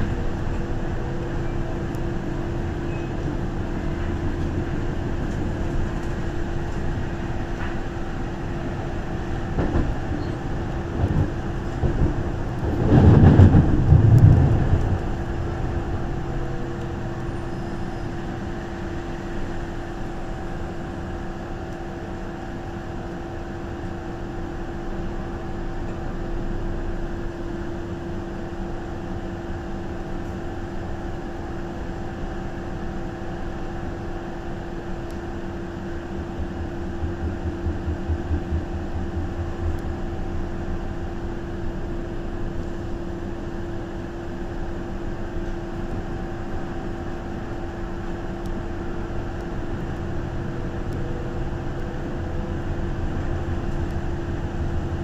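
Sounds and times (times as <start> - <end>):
constant hum: 0.0 - 55.0
train wheels rumbling on rail: 0.0 - 55.0.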